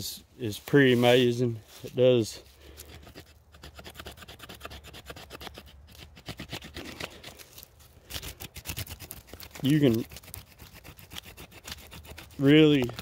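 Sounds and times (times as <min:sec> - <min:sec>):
knife scraping a branch: 0:00.8 - 0:13.0.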